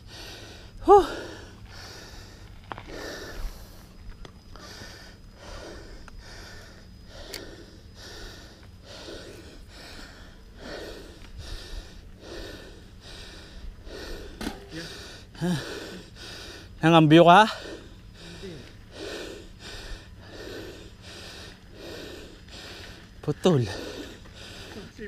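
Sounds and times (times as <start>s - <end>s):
person panting hard: 0.0s - 16.8s, 17.4s - 25.0s.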